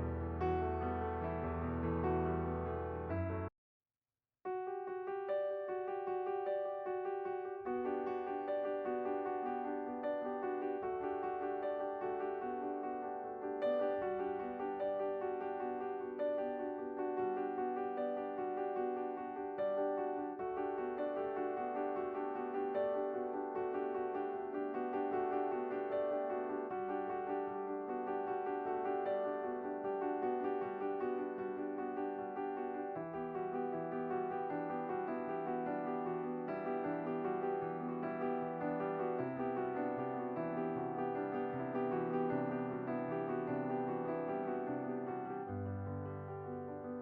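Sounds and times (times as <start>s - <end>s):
gentle piano melody: 0.0s - 3.5s, 4.5s - 47.0s.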